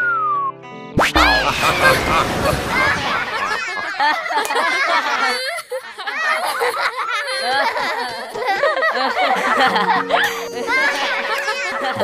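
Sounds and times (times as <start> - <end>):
cartoon children laughing: 1.0 - 12.0.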